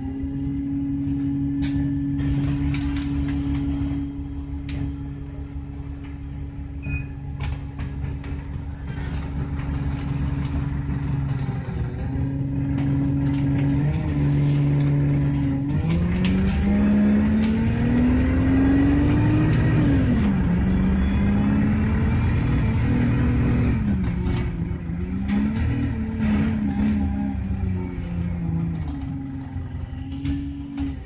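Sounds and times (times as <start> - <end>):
bus engine accelerating: 0.0 - 31.0.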